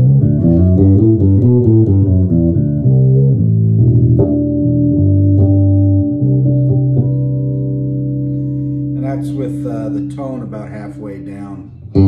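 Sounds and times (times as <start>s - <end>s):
fretless bass guitar notes: 0.0s - 12.0s.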